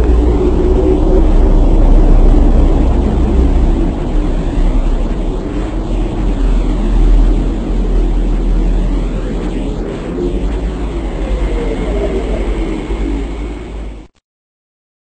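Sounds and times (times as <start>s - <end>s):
loud low rumble: 0.0s - 14.2s.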